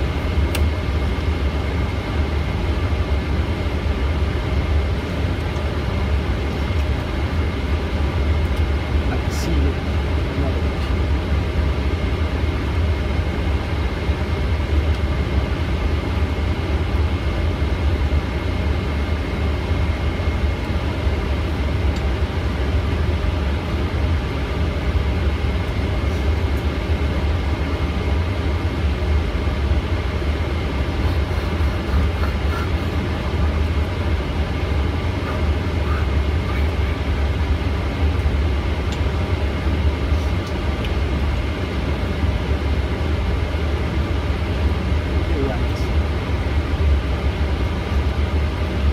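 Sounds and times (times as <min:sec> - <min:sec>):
airplane cabin rumble and whine: 0:00.0 - 0:48.9.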